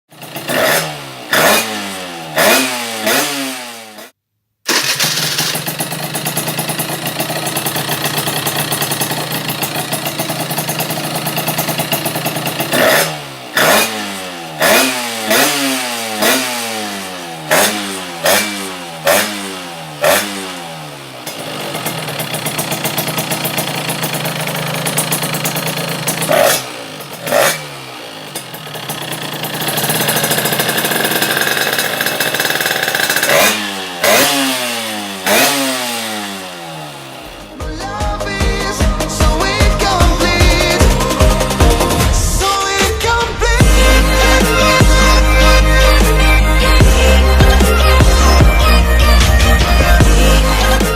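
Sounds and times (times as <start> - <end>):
dirt bike engine revving: 0.1 - 50.9.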